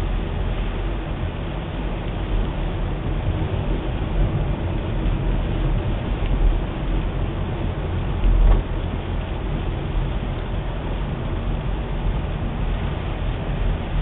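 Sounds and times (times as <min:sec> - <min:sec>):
car engine and tyres on wet road: 0:00.0 - 0:14.0.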